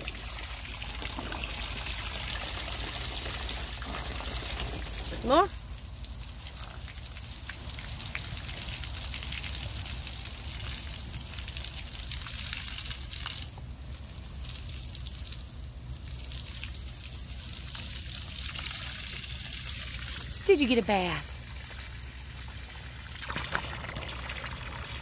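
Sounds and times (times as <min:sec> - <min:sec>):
hose water splashing on ground: 0:00.0 - 0:25.0.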